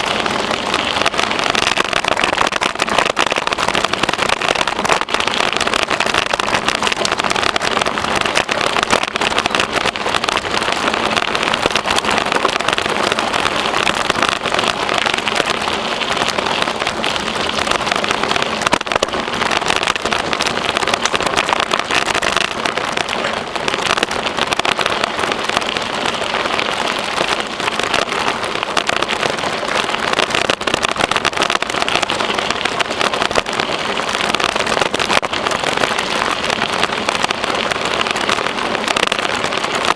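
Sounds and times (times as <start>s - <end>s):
bicycle tyres rolling on trail: 0.0s - 39.9s.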